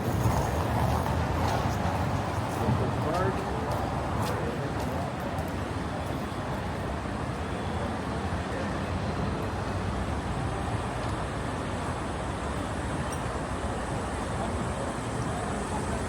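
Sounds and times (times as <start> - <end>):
street traffic hum: 0.0 - 16.0.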